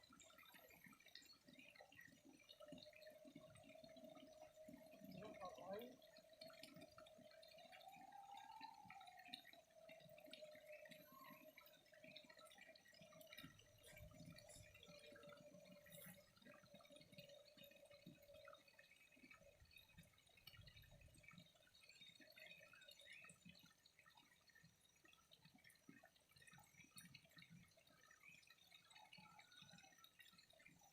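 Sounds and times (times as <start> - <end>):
water trickling and dripping: 0.0 - 30.9.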